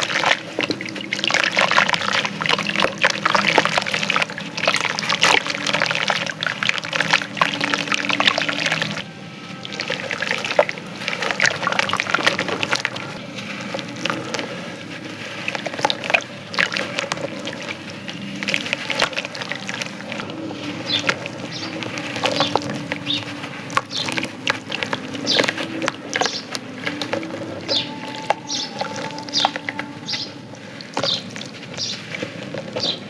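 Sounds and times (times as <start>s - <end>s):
chunks crackling apart in water: 0.0s - 33.0s
water: 0.0s - 33.0s.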